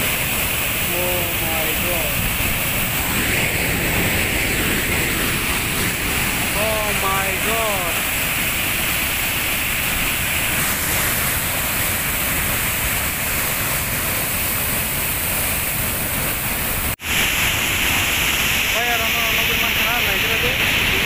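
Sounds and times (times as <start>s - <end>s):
waterfall crashing into pool: 0.0s - 21.0s.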